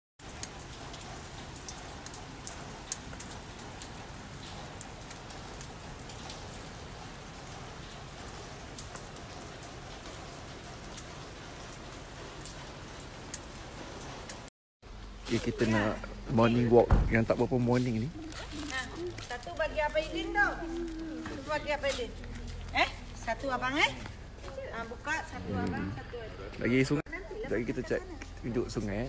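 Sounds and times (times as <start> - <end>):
rain on foliage: 0.2 - 29.0
raindrops ticking close by: 0.2 - 29.0.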